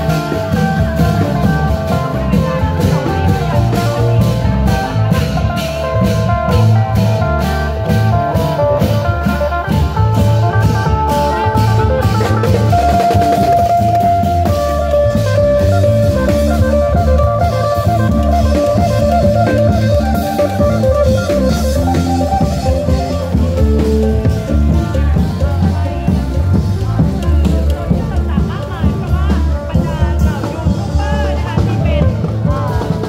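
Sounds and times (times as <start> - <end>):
electric bass: 0.0 - 33.0
long drums and cymbals beating: 0.0 - 33.0
sustained melody line: 0.0 - 33.0.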